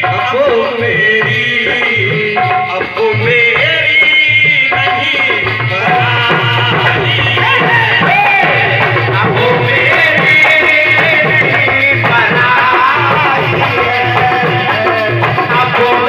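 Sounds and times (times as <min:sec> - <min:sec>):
hand drum rhythm: 0:00.0 - 0:16.0
harmonium: 0:00.0 - 0:16.0
man singing: 0:00.0 - 0:16.0.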